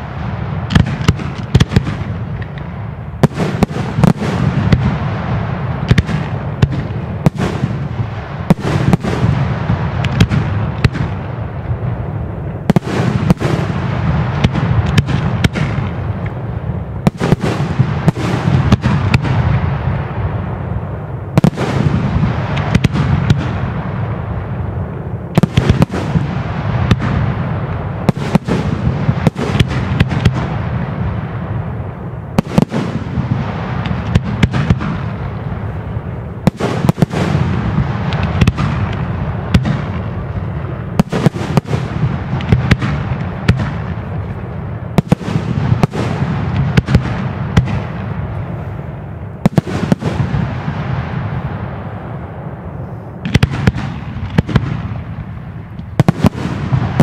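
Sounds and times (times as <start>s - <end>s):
fireworks bangs: 0.0s - 57.0s
fireworks crackle: 0.0s - 57.0s.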